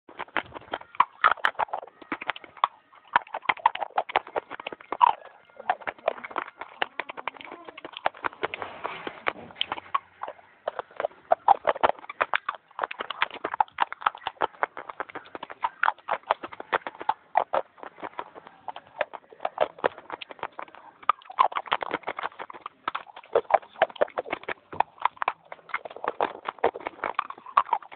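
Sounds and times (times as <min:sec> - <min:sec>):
chewing crunchy clay: 0:00.1 - 0:27.9.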